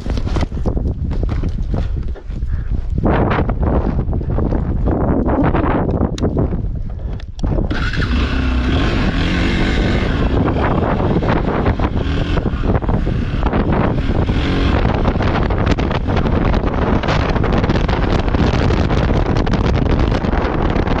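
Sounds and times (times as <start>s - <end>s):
dirt bike engine running: 0.0s - 21.0s
wind rumbling on microphone: 0.0s - 21.0s.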